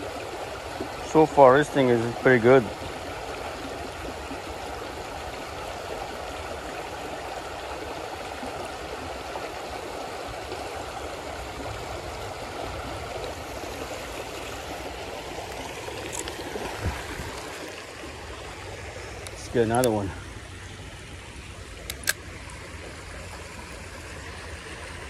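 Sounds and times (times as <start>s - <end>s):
creek water running over rocks: 0.0s - 25.0s.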